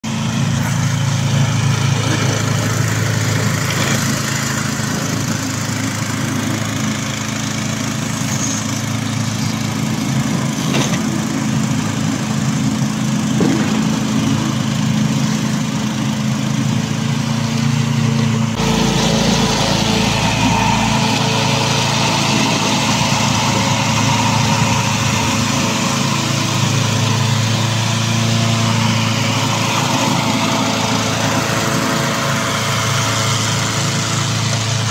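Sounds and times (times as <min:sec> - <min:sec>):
petrol engine running: 0:00.0 - 0:34.9.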